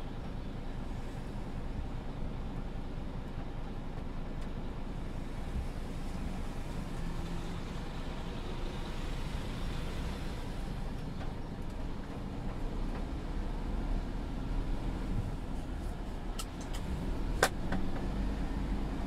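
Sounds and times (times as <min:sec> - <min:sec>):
diesel truck engine rumble: 0:00.0 - 0:19.0.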